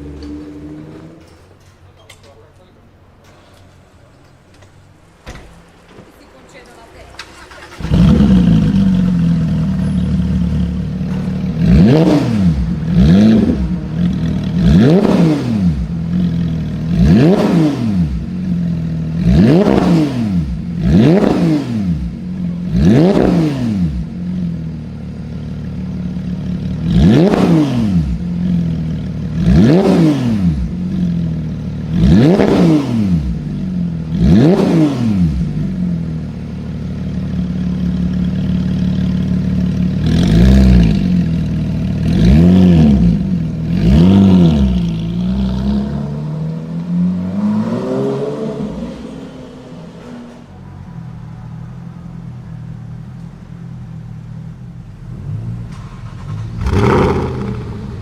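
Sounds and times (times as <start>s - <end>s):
car engine revving: 7.3s - 58.0s.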